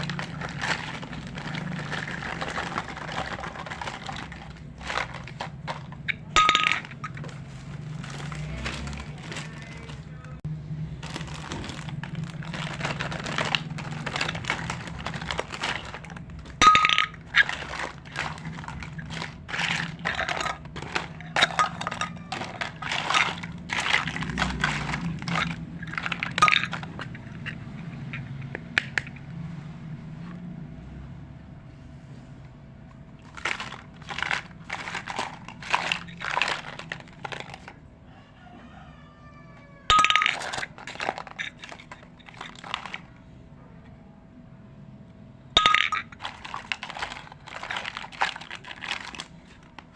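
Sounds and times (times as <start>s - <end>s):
toy pieces clicking and clinking: 0.0s - 10.1s, 11.0s - 29.2s, 33.3s - 37.8s, 39.9s - 43.1s, 45.6s - 49.9s.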